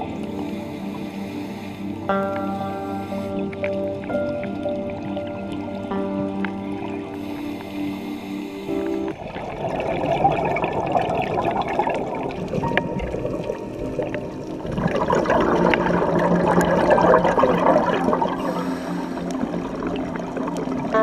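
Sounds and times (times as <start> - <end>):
water bubbling underwater: 0.0 - 21.0.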